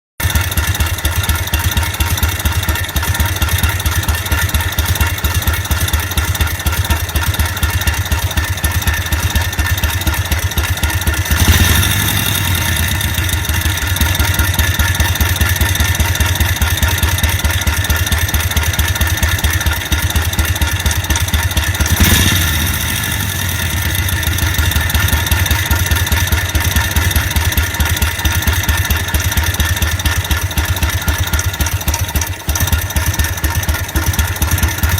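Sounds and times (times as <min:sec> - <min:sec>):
engine running with abnormal noise: 0:00.2 - 0:34.9.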